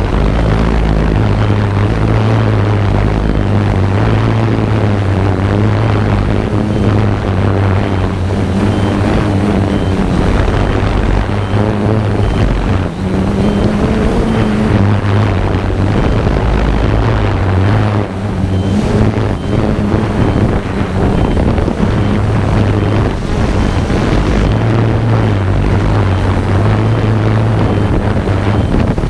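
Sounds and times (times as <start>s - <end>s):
drone propellers whirring: 0.0s - 29.0s
wind noise on microphone: 0.0s - 29.0s.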